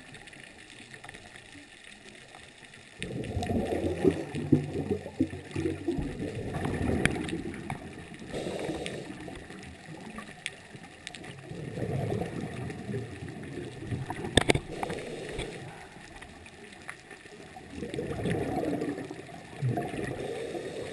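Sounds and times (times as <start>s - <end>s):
muffled underwater ambience: 0.0s - 20.9s
gurgling exhaled bubbles: 2.9s - 20.9s.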